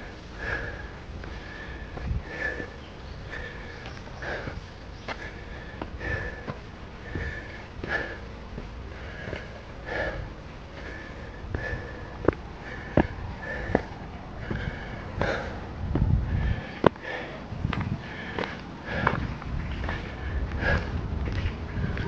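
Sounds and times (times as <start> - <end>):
low microphone rumble: 0.0 - 22.0
person breathing hard: 0.0 - 22.0.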